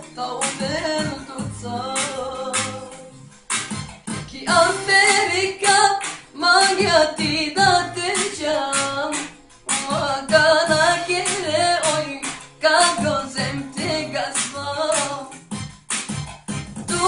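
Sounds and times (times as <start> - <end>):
instrumental backing with beat: 0.0 - 17.0.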